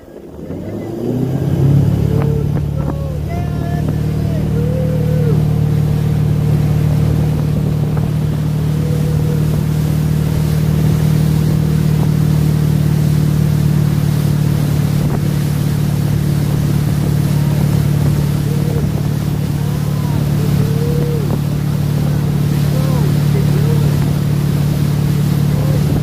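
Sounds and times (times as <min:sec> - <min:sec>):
motorboat engine droning: 0:00.0 - 0:26.0.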